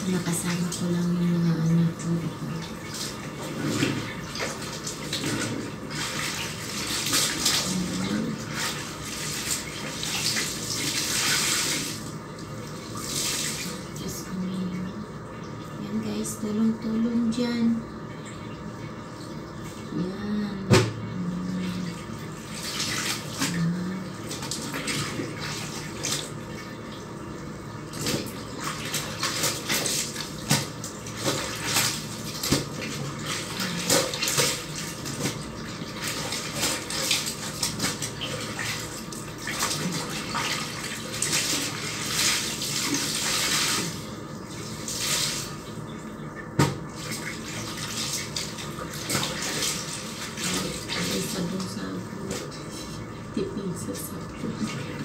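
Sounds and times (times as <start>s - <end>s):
water sloshing and splashing: 0.0s - 16.6s, 17.8s - 55.0s.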